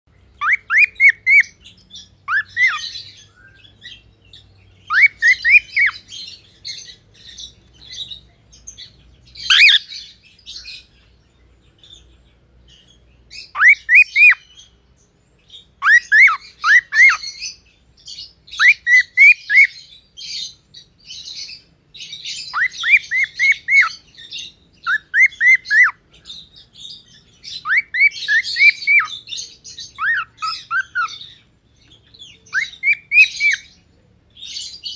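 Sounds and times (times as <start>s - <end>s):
cockatiel chirping: 0.4s - 8.8s, 9.4s - 10.9s, 13.3s - 14.7s, 15.5s - 17.6s, 18.2s - 20.6s, 21.2s - 33.7s.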